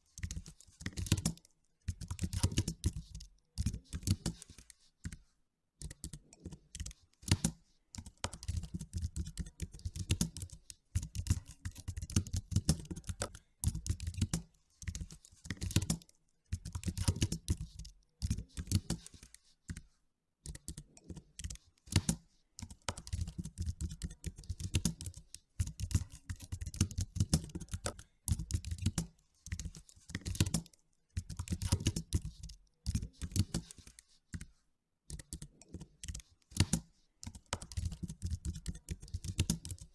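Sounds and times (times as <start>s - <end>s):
computer keyboard typing: 0.1s - 5.2s, 5.8s - 34.5s, 35.1s - 39.9s.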